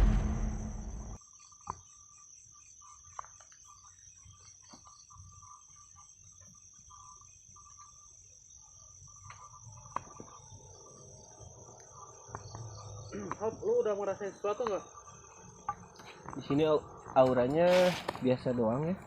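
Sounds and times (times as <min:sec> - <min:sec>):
crickets trilling: 0:00.0 - 0:19.0
insect chirping calls: 0:00.0 - 0:19.0.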